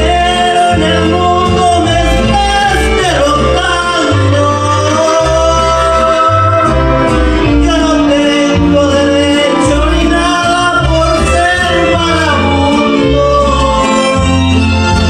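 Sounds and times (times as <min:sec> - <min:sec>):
latin backing track: 0:00.0 - 0:15.0
man singing into a microphone: 0:00.0 - 0:15.0.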